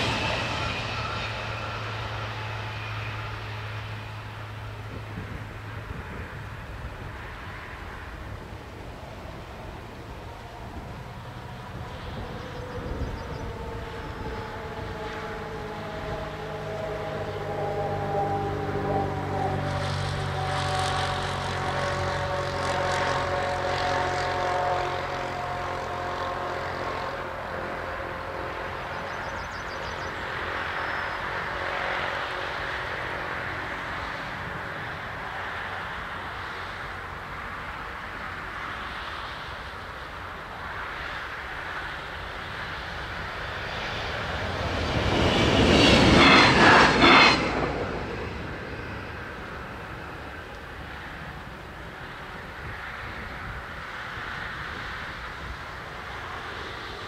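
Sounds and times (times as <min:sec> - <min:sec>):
droning engine-like tone: 0:00.0 - 0:57.0.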